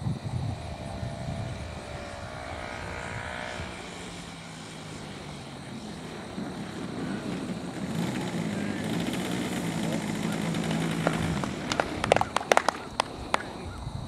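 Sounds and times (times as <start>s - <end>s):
model plane rolling on grass: 0.0s - 13.8s
model plane engine idling: 0.0s - 13.9s.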